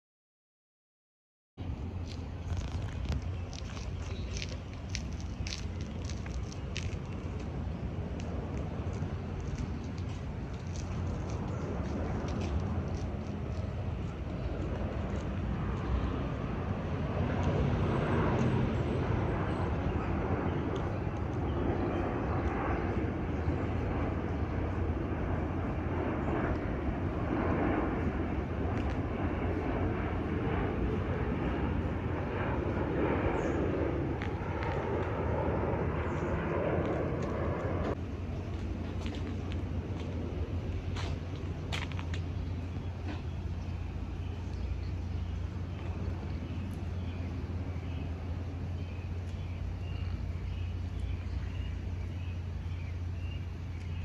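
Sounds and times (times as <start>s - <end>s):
jet airliner flying past: 1.6s - 54.0s.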